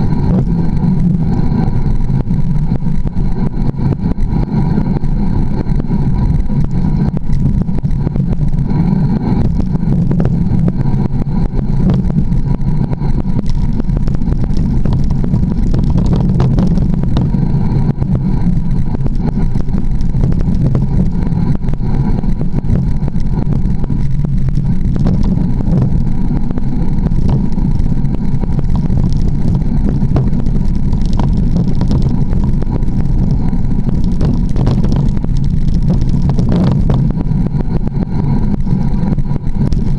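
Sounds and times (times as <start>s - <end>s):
bike tyres rolling over dirt: 0.0s - 39.9s
wind buffeting microphone: 0.0s - 39.9s.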